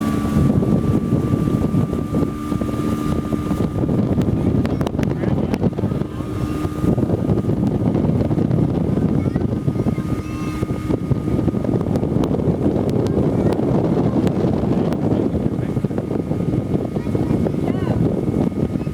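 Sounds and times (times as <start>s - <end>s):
motorboat engine: 0.0s - 18.9s
water rushing: 0.0s - 18.9s
wind buffeting microphone: 0.0s - 18.9s.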